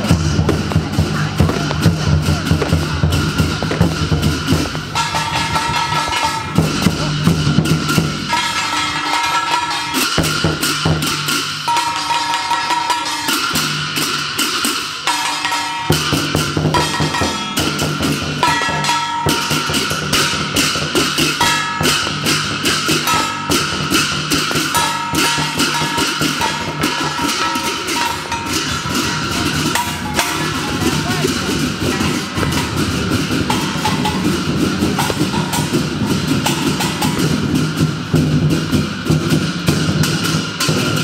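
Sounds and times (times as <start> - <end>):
brass hand cymbals clashing: 0.0 - 41.0
large barrel drum: 0.0 - 41.0.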